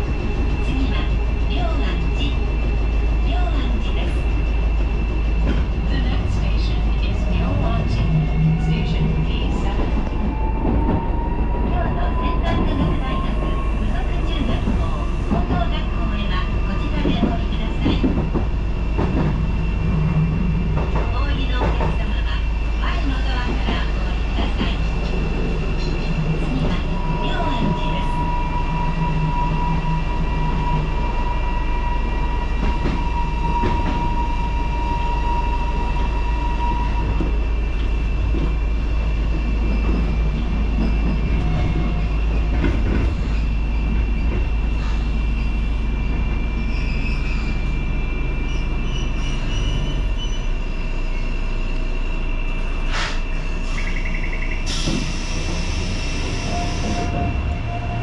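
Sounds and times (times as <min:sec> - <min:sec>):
train wheels and motors rumbling: 0:00.0 - 0:58.0.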